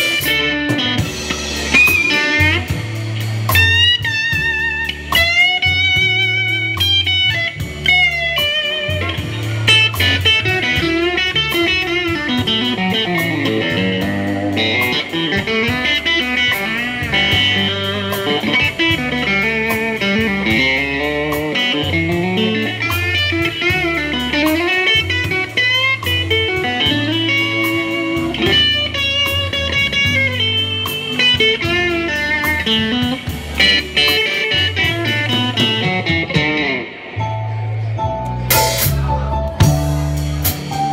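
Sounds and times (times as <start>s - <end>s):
drums: 0.0s - 40.9s
electric guitar lead lines: 0.0s - 40.9s
low bass notes: 0.0s - 40.9s.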